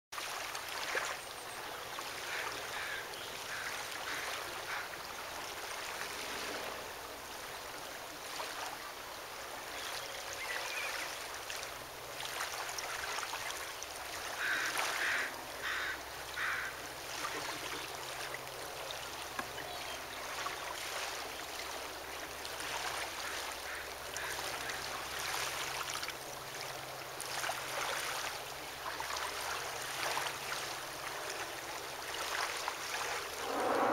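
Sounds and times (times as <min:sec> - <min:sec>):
water washing on shore: 0:00.2 - 0:33.9.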